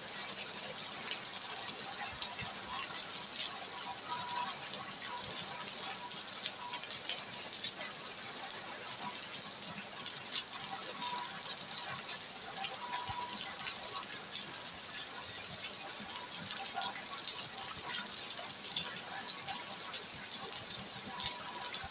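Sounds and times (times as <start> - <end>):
steady rain falling: 0.0 - 21.9
raindrops ticking: 1.6 - 8.0, 9.8 - 21.9.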